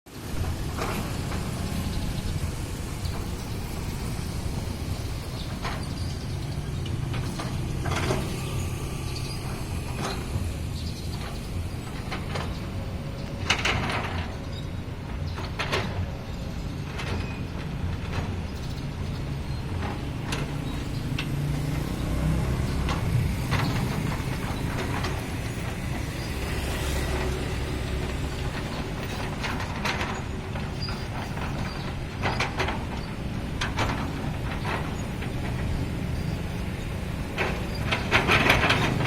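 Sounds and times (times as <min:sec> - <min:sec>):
excavator diesel engine running: 0:00.2 - 0:39.0
metallic clanks and knocks: 0:00.3 - 0:39.0.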